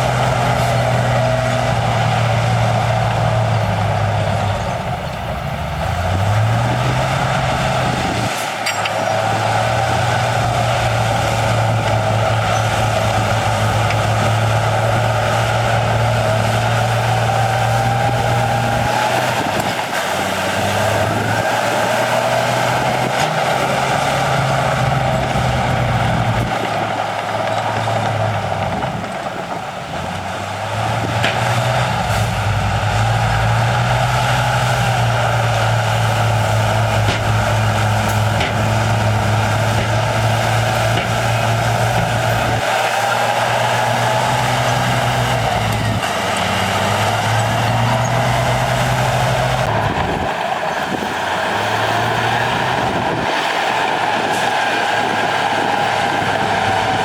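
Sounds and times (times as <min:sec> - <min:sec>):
diesel machinery engine: 0:00.0 - 0:57.0.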